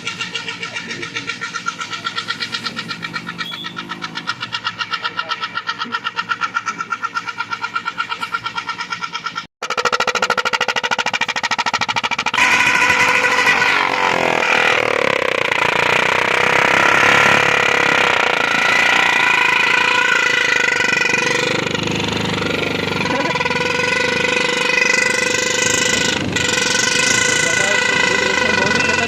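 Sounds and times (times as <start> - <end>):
motorcycle electric horns chord: 0.0 - 9.5, 11.8 - 29.0.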